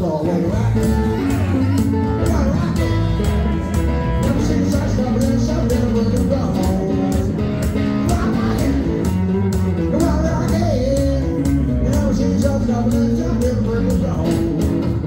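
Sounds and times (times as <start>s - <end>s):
electric guitars playing blues shuffle: 0.0s - 15.0s
steady beat: 0.5s - 15.0s.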